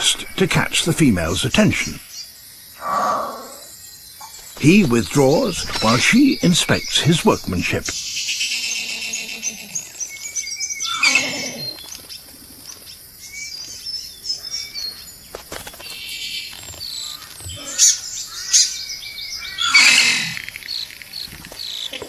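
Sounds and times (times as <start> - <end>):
harsh rasping bird calls: 0.0 - 12.6, 13.2 - 22.0.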